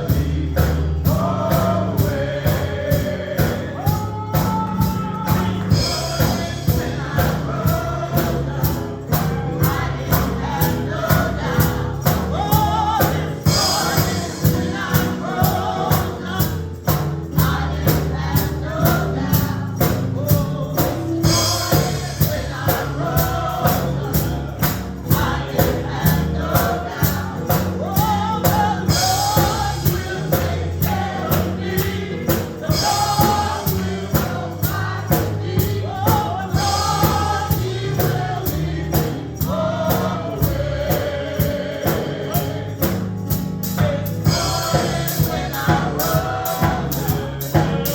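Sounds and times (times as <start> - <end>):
bass line: 0.0 - 47.9
drums: 0.0 - 47.9
gospel choir singing: 0.0 - 47.9
tambourine beat: 0.0 - 47.9.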